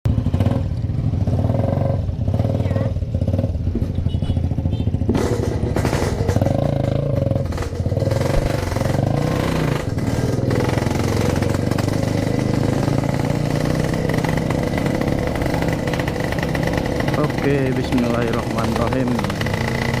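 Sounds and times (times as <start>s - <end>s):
motorcycle engine revving: 0.1s - 20.0s.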